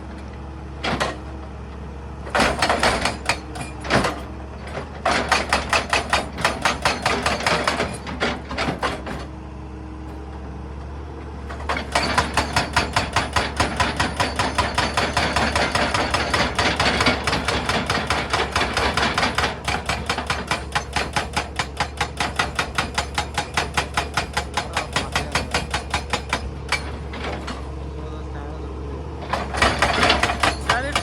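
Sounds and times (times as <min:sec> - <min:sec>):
hydraulic breaker hammering rock: 0:02.3 - 0:09.3, 0:11.5 - 0:27.6, 0:29.2 - 0:31.0.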